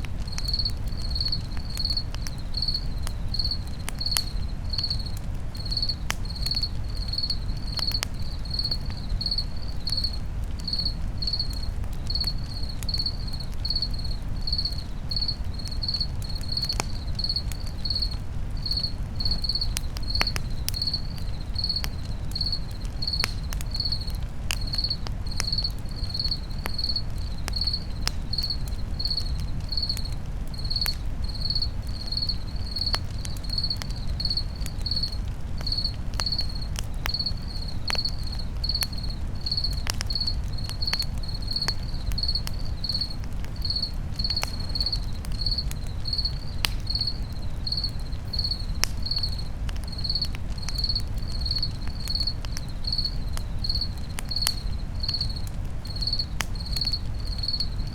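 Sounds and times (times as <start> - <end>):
campfire crackling and popping: 0.0 - 57.9
cricket chirping: 0.2 - 57.9.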